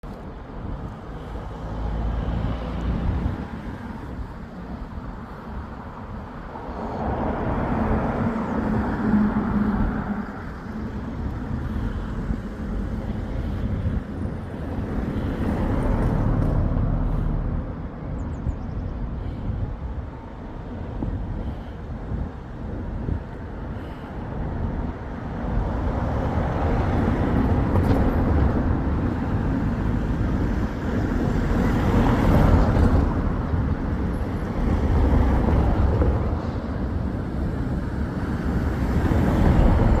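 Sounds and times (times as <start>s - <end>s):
road traffic passing: 0.0s - 40.0s.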